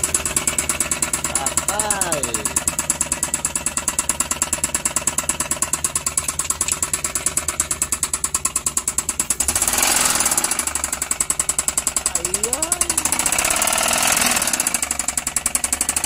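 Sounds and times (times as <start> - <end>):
engine running with rapid knock: 0.0 - 16.0.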